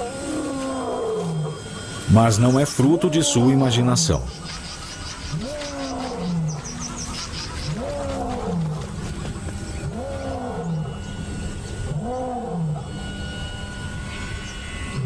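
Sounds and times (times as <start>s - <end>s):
lion roaring: 0.0s - 4.5s, 5.2s - 13.1s.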